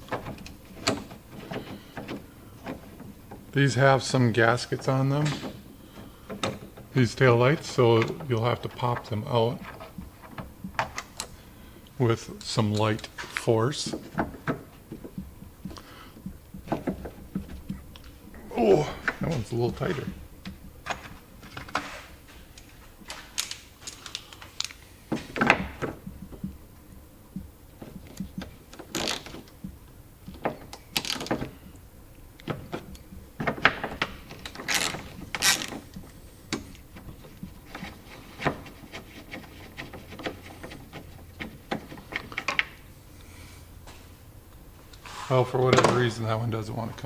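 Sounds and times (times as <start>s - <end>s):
creaking scrapes: 0.0s - 31.8s, 32.4s - 44.1s, 45.0s - 47.0s
tools clicking and knocking: 0.0s - 42.9s.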